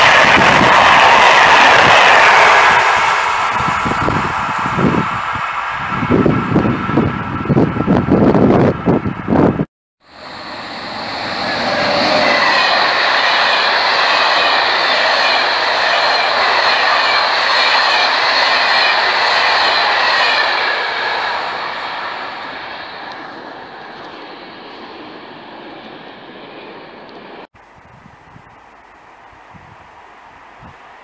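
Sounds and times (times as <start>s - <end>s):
train passing at speed: 0.0s - 31.0s.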